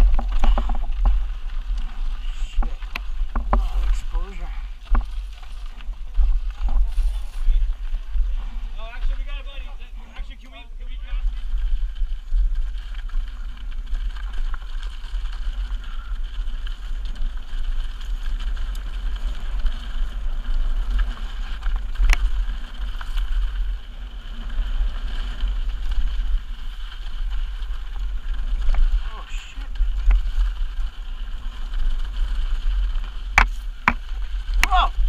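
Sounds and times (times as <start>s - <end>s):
bike rattling on trail: 0.0s - 35.0s
wind rumble on microphone: 0.0s - 35.0s.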